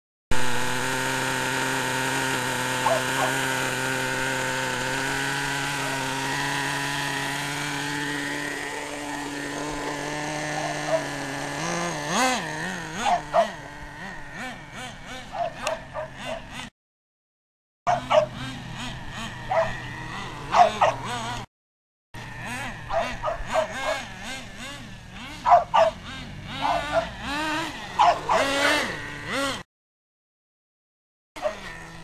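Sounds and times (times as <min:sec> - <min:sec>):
nitro engine buzzing: 0:00.3 - 0:16.7, 0:17.9 - 0:21.5, 0:22.2 - 0:29.7, 0:31.4 - 0:32.0.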